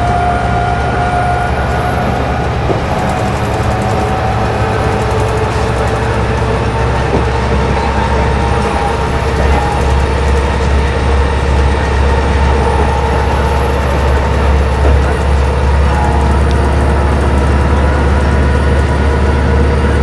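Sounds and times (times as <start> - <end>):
bus diesel engine droning: 0.0 - 20.0
road noise: 0.0 - 20.0
steady whine: 0.0 - 20.0.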